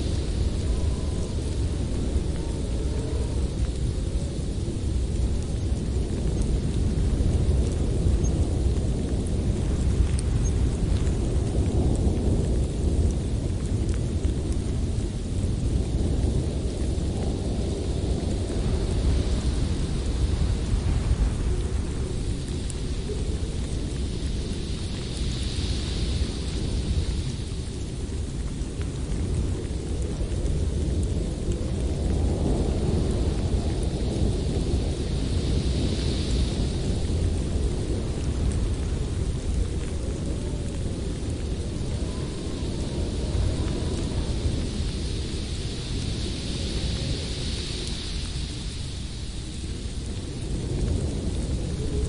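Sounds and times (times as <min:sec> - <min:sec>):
blizzard wind rushing: 0:00.0 - 0:52.0
faint ticks of snow: 0:00.0 - 0:52.0.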